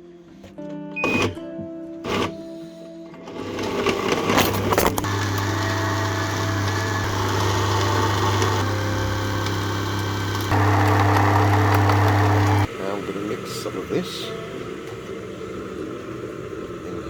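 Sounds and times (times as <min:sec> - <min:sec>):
electrical appliance humming: 0:03.3 - 0:17.0.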